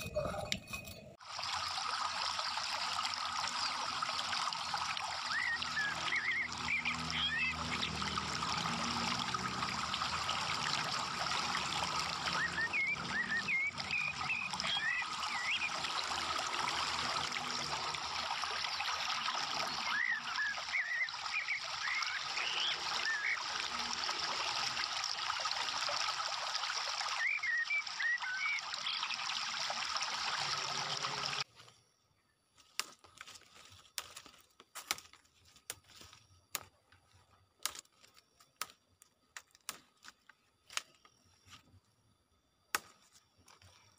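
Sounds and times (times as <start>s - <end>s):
trickling water: 0.0s - 31.8s, 32.5s - 43.9s.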